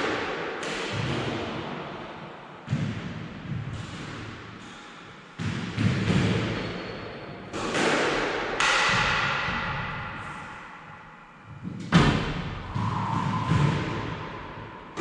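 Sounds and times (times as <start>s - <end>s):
squash ball hitting walls: 0.0s - 2.0s, 2.6s - 4.8s, 5.4s - 11.0s, 11.6s - 15.0s.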